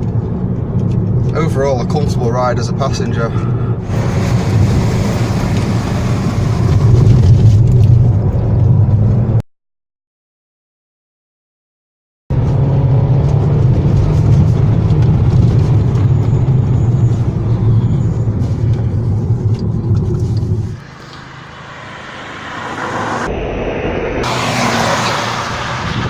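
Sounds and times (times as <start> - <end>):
car engine and road rumble: 0.0 - 9.4, 12.3 - 26.0.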